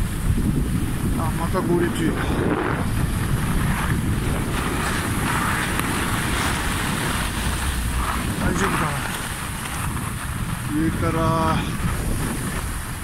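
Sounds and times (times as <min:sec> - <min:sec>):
skis sliding over snow: 0:00.0 - 0:13.0
wind buffeting microphone: 0:00.0 - 0:13.0.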